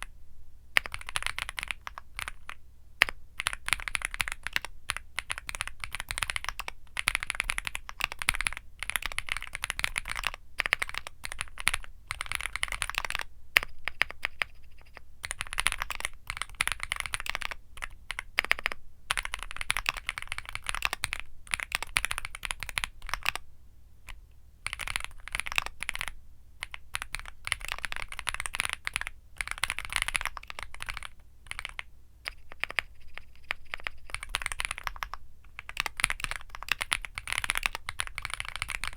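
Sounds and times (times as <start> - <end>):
mechanical keyboard typing: 0.8 - 23.4, 24.1 - 38.9.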